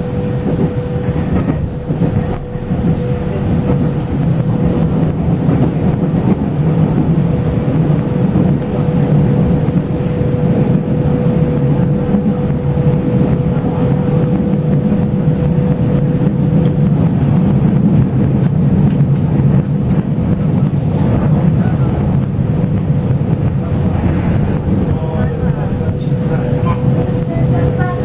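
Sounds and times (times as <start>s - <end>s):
steady mid-pitched hum: 0.0s - 28.0s
train wheels rumbling on track: 0.0s - 28.0s.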